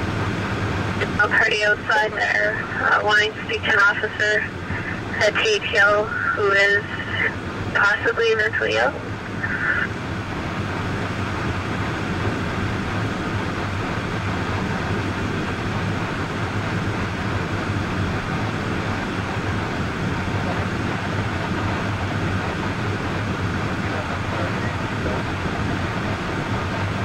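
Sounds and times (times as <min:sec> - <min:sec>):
moving vehicle running noise: 0:00.0 - 0:27.0.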